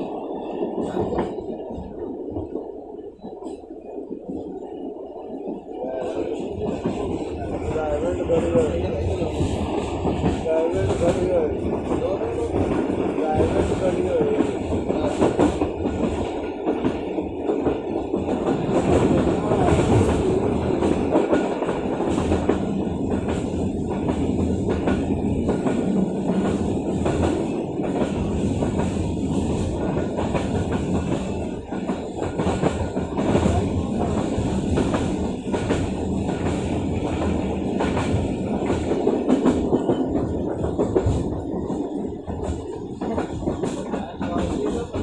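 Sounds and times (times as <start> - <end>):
train rumbling on track: 0.0 - 45.0
wheels clicking over rail joints: 0.0 - 45.0.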